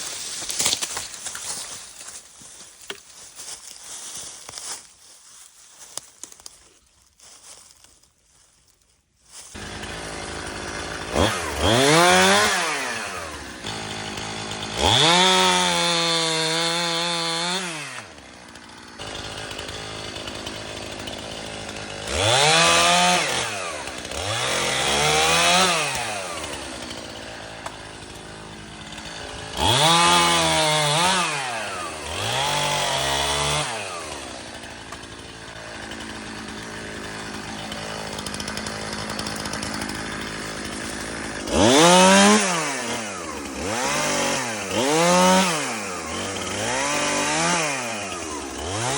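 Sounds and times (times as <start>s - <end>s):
chainsaw revving and idling: 0.0s - 6.1s, 9.3s - 48.9s.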